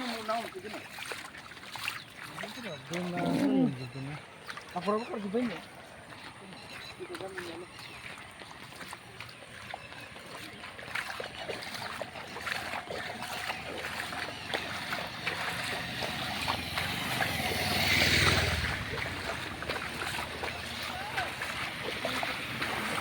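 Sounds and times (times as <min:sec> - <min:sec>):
floodwater rushing: 0:00.0 - 0:23.0
small water splashes: 0:00.0 - 0:23.0.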